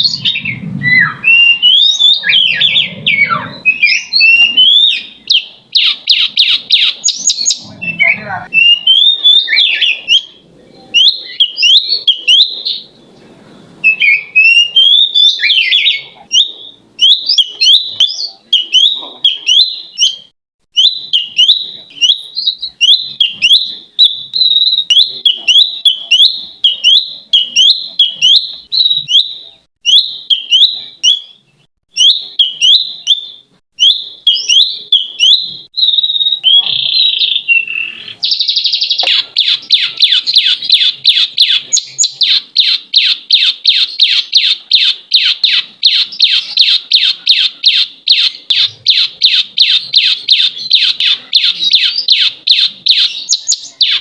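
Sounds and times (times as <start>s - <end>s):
bird chirping and chattering: 0.0s - 13.2s, 13.9s - 54.0s.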